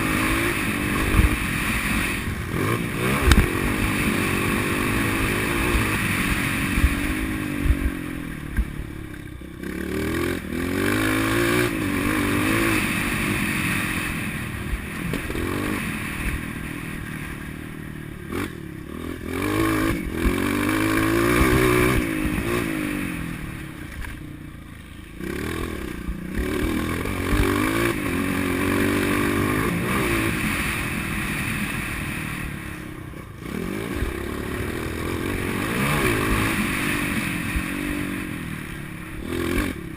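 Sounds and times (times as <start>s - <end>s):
motocross motorcycle engine revving: 0.0s - 39.9s.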